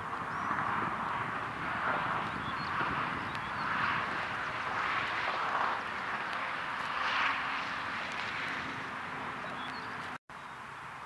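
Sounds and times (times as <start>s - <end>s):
steady rushing noise: 0.0s - 10.2s.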